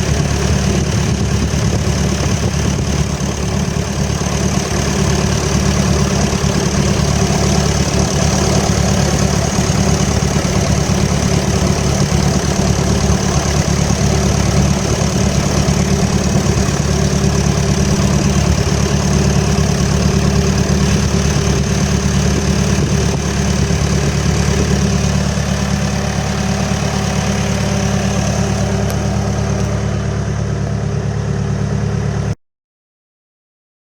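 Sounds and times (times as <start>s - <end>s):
diesel engine idling: 0.0s - 32.4s.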